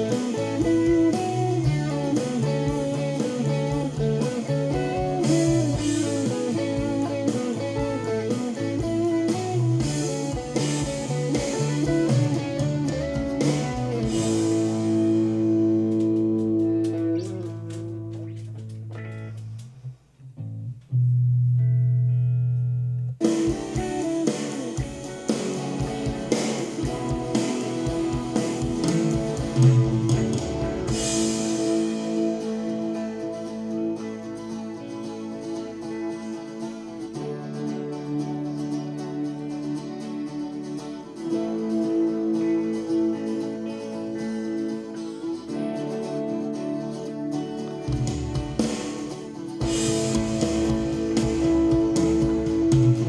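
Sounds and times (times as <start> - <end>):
guitar-led band music: 0.0 - 53.0.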